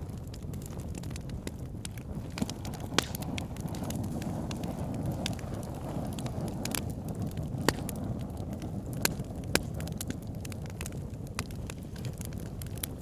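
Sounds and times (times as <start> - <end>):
fire crackling and popping: 0.0 - 13.0
fire flames rumbling: 0.0 - 13.0.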